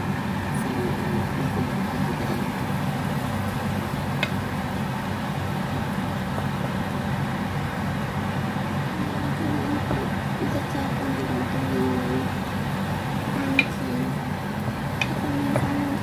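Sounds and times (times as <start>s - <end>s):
kitchen fan humming: 0.0s - 16.0s.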